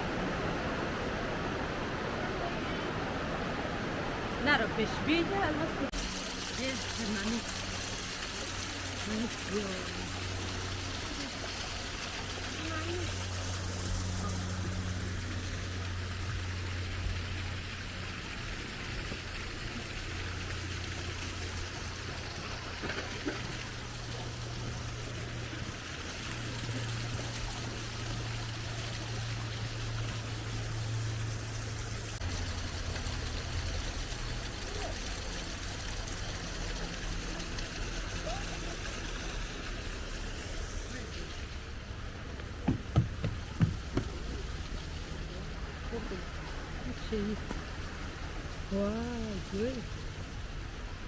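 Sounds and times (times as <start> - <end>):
rushing water: 0.0 - 51.0.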